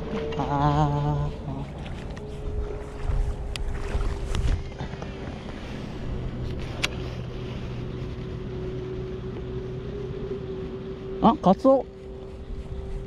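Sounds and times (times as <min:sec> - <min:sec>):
low drone: 0:00.0 - 0:13.0
wind rumbling on microphone: 0:00.0 - 0:13.0.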